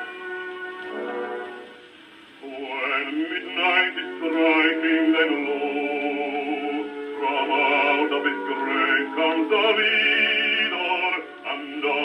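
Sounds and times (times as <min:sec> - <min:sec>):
man singing on gramophone record: 0:02.3 - 0:12.0.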